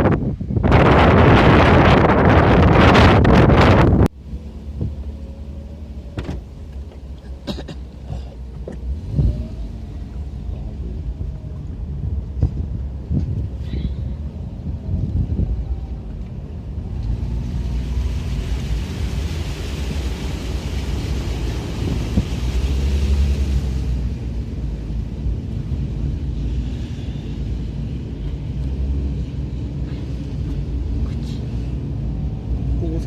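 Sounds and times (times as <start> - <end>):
car driving rumble: 0.0 - 33.0.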